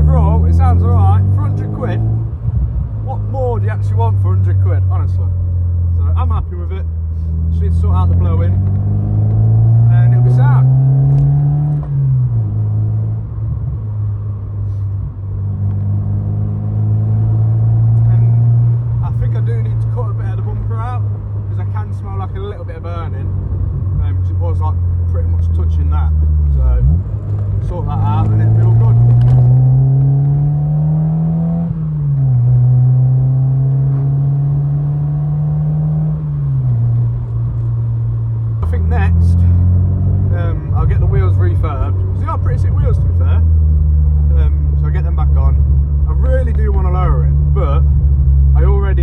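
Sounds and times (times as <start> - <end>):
car engine and exhaust droning: 0.0 - 49.0.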